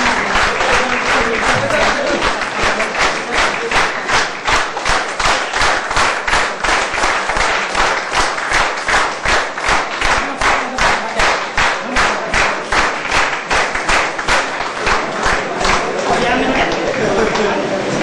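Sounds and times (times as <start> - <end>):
audience clapping in rhythm: 0.0 - 18.0.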